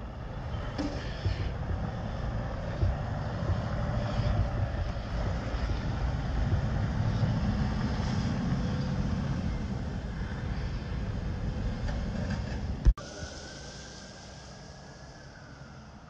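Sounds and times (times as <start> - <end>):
truck diesel engine rumbling: 0.0 - 16.0.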